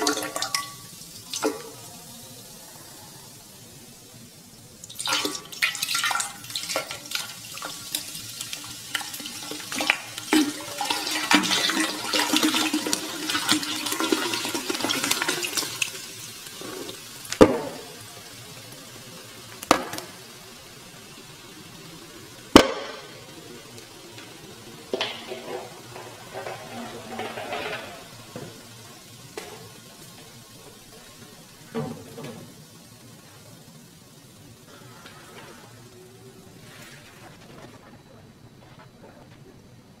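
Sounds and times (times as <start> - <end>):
hiss: 0.0 - 39.6.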